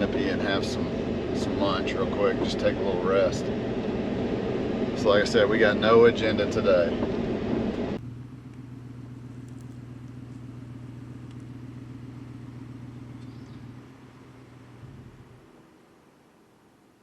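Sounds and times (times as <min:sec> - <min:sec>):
truck engine humming: 0:00.0 - 0:16.8.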